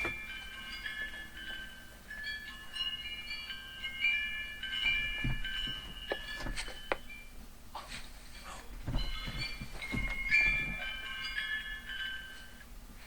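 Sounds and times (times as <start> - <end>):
wind chime ringing: 0.0 - 7.4, 8.4 - 12.6.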